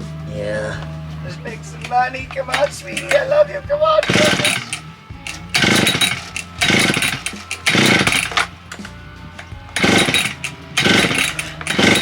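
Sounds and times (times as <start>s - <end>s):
chainsaw pull-start cranking: 1.8s - 3.4s, 4.0s - 12.0s.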